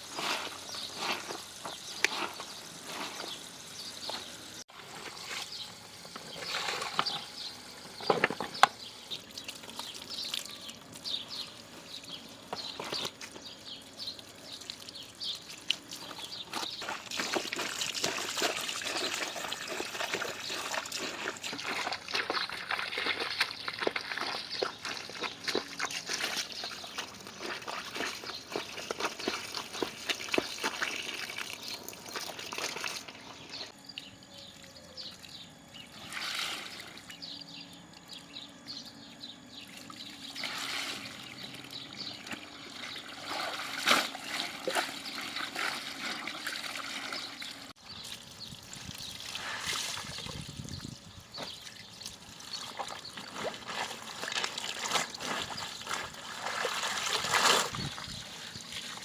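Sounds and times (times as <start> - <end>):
water trickling and splashing: 0.0 - 33.8, 34.5 - 38.3, 39.6 - 59.0.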